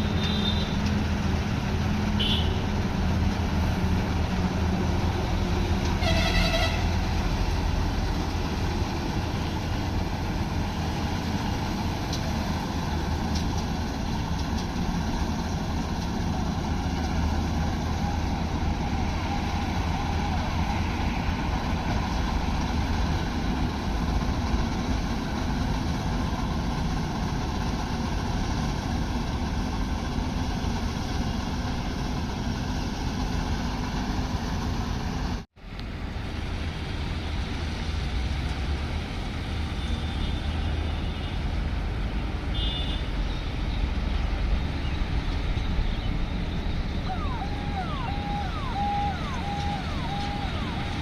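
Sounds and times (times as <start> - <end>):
combine harvester running: 0.0 - 40.2, 40.8 - 51.0.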